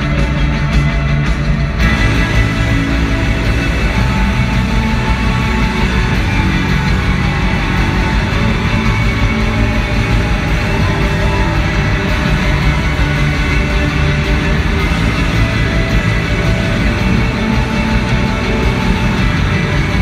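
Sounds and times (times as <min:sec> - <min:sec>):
live post-rock band playing: 0:00.0 - 0:20.0.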